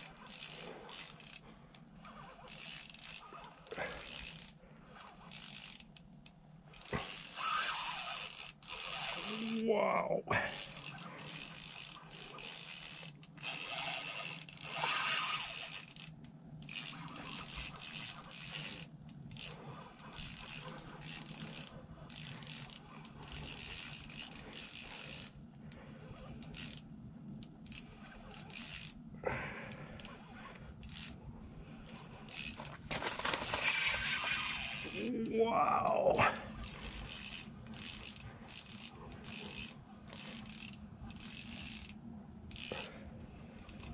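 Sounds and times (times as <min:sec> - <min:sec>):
fishing reel clicking and rasping: 0:00.0 - 0:29.1, 0:29.7 - 0:43.9
low steady hum: 0:00.0 - 0:43.9.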